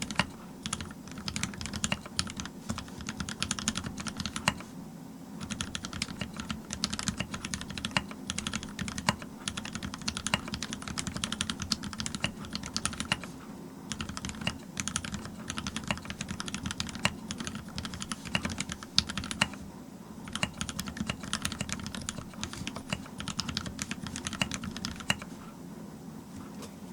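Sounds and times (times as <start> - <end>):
fast typing on mechanical keyboard: 0.0 - 4.7, 5.4 - 13.3, 13.9 - 19.6, 20.3 - 25.3.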